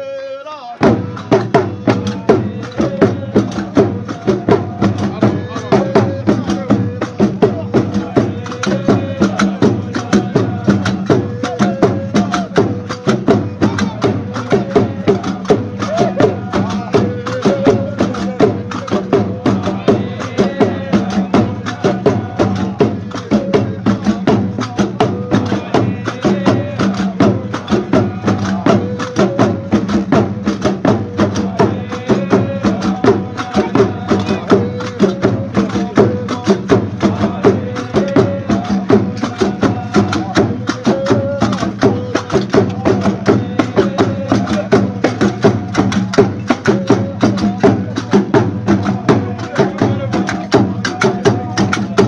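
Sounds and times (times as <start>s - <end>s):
men chanting: 0.0s - 52.0s
frame drums beaten with sticks: 0.8s - 52.0s.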